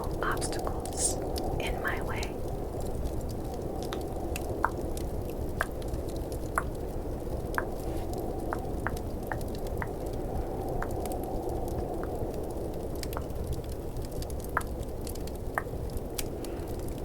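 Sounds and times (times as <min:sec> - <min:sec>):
fireplace ambience: 0:00.0 - 0:17.0
low rumble of snowstorm: 0:00.0 - 0:17.0.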